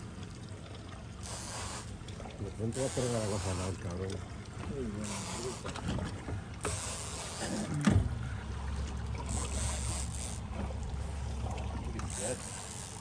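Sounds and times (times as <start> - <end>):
outboard motor running: 0.0 - 13.0
water washing along boat: 0.0 - 13.0.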